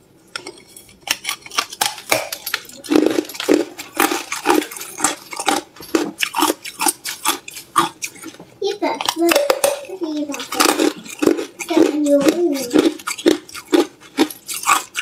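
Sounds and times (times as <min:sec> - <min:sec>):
ice crunching while chewed: 0:00.4 - 0:08.4, 0:09.0 - 0:15.0.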